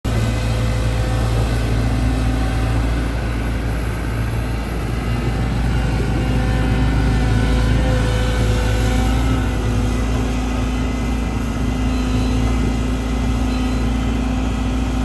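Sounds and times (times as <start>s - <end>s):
excavator diesel engine droning: 0.1s - 15.0s.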